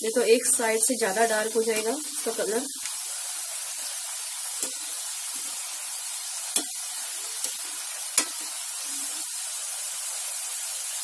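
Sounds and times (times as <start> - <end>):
dough sizzling in hot oil: 0.0 - 11.0.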